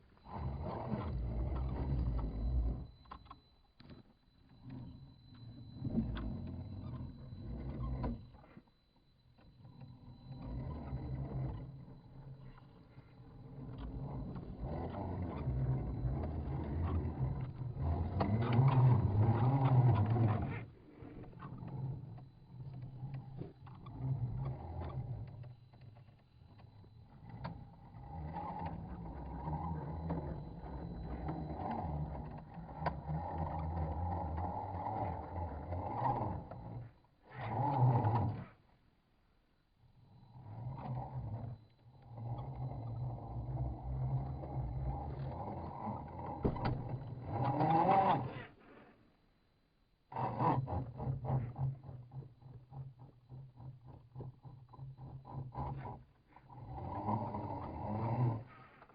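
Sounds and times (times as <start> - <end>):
rc car motor and gears: 0.0 - 39.0, 39.6 - 58.9
faint high whine: 0.0 - 58.9.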